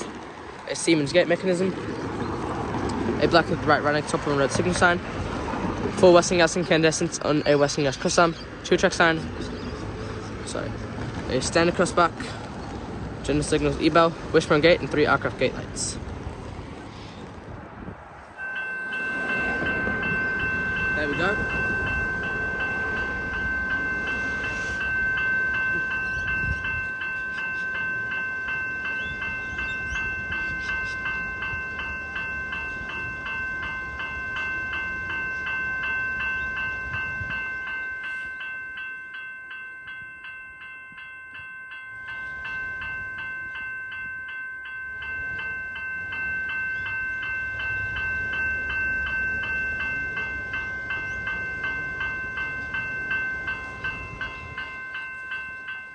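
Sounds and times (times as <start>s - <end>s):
low rumble of rail traffic: 0.0s - 55.9s
level-crossing bell ringing: 3.2s - 16.0s, 18.4s - 55.9s.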